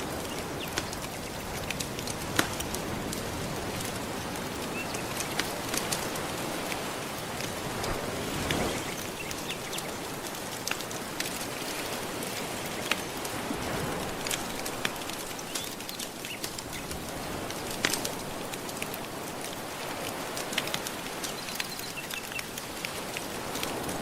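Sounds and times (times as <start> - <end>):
ocean waves washing: 0.0 - 24.0
wood fire crackling: 0.0 - 24.0.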